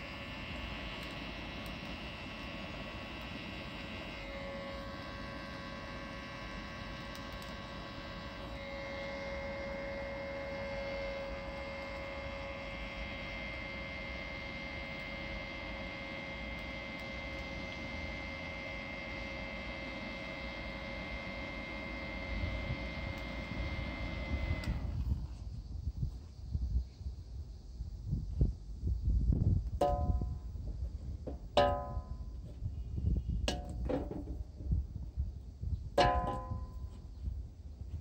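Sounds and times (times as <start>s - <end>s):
electric charcoal lighter fan whirring: 0.0s - 26.5s, 28.0s - 38.0s.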